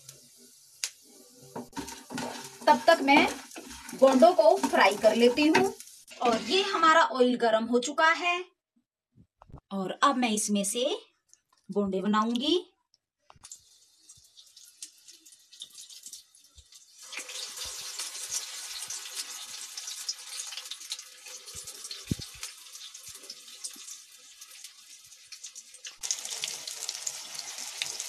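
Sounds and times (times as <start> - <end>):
food deep-frying in hot oil: 0.0 - 7.8, 13.4 - 28.0.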